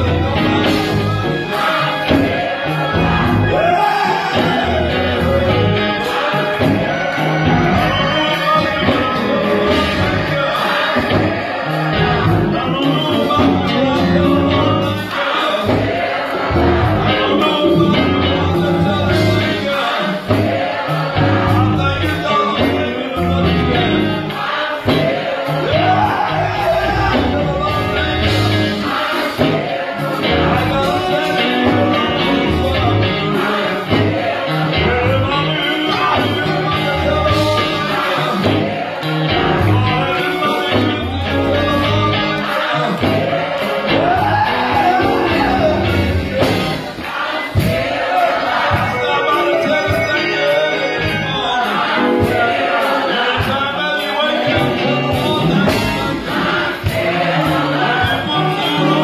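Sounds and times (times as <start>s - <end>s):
man singing into a microphone: 0.0s - 15.9s, 17.0s - 24.3s, 25.6s - 29.4s, 30.0s - 38.7s, 39.5s - 43.2s, 43.8s - 46.2s, 48.7s - 59.0s
electric bass guitar: 0.0s - 47.8s, 54.4s - 59.0s
drums: 0.0s - 50.3s, 51.0s - 59.0s
keyboards: 0.0s - 59.0s.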